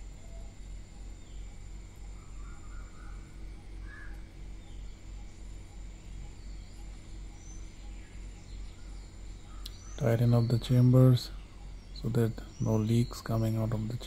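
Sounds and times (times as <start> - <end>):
faint bird calls: 0.0 - 14.0
low pulsing hum: 0.0 - 14.0.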